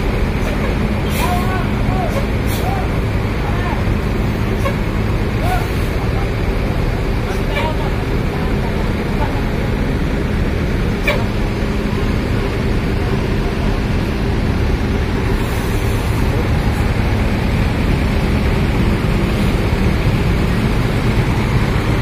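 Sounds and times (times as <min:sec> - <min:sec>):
bus diesel engine idling: 0:00.0 - 0:22.0.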